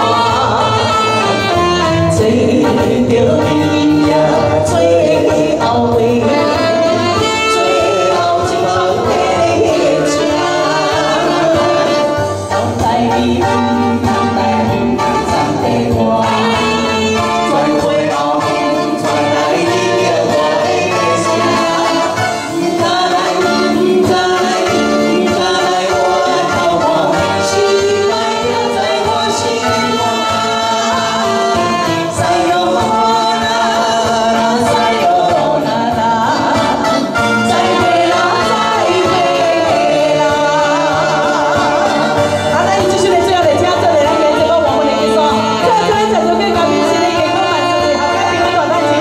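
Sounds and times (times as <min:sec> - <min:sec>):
live band music: 0:00.0 - 0:49.0
man and woman singing together: 0:00.0 - 0:49.0
person singing: 0:00.0 - 0:49.0.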